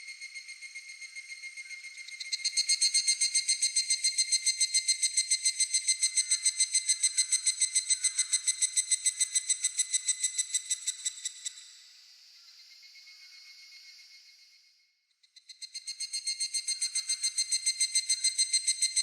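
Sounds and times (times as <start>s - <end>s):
cicada pulsing call: 0.0s - 11.8s, 15.3s - 19.0s
high-pitched insect trill: 0.0s - 11.8s, 15.4s - 19.0s.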